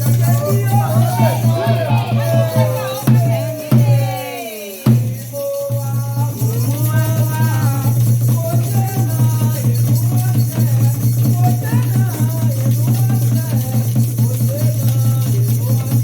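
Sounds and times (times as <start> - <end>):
hand drums: 0.0 - 16.0
people singing: 0.0 - 16.0.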